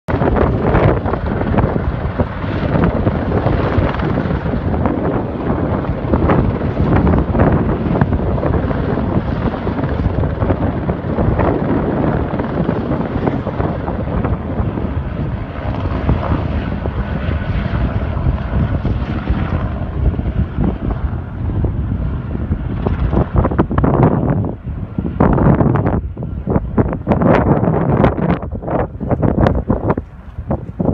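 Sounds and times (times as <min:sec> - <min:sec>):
helicopter rotor and engine: 0:00.1 - 0:30.9
wind buffeting microphone: 0:00.1 - 0:30.9.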